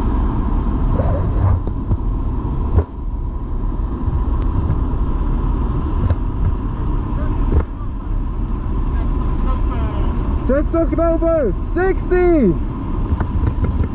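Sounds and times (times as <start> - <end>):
propeller plane engine drone: 0.0 - 13.9.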